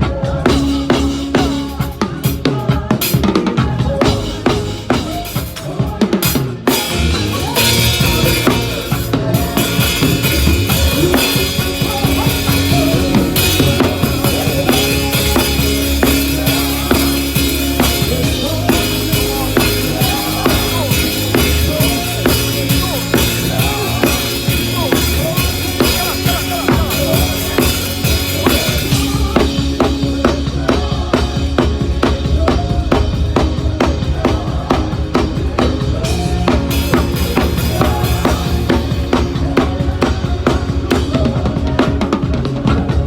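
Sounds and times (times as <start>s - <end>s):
drum kit playing: 0.0s - 43.0s
sustained bass notes: 0.0s - 43.0s.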